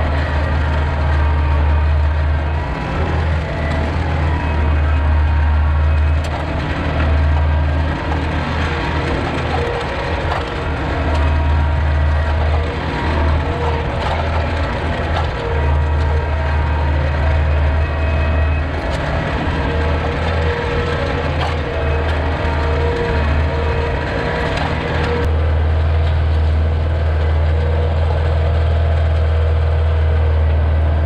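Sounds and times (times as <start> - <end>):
diesel tractor engine under load: 0.0 - 31.0.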